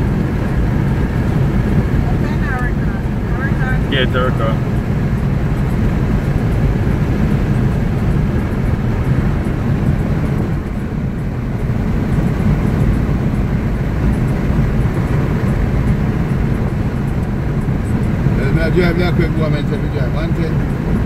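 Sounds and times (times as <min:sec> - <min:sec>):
car cabin road noise: 0:00.0 - 0:21.0.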